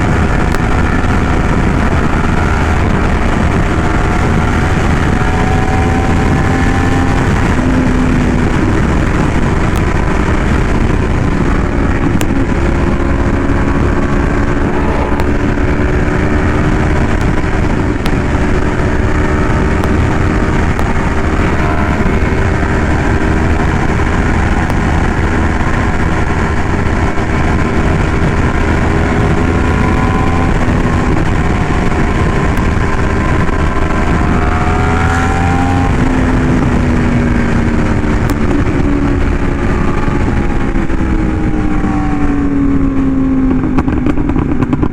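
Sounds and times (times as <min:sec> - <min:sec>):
motorcycle engine cruising: 0:00.0 - 0:44.9
wind rush on microphone: 0:00.0 - 0:44.9.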